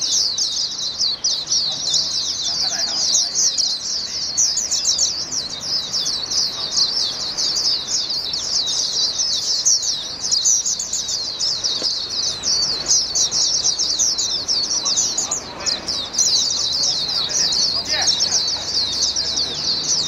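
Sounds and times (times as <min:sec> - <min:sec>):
bird singing high-pitched warble: 0:00.0 - 0:20.0.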